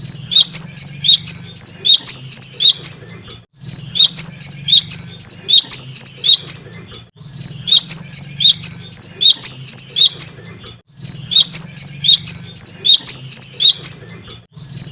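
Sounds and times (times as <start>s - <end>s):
bird singing sharp high chirps: 0.0s - 3.0s, 3.6s - 6.7s, 7.3s - 14.0s, 14.6s - 14.9s.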